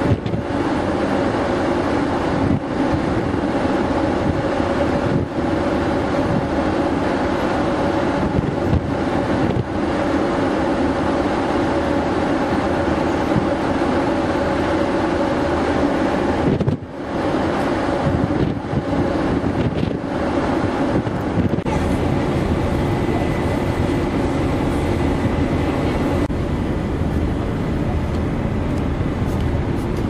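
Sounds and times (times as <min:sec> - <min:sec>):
ship engines droning: 0:00.0 - 0:30.0.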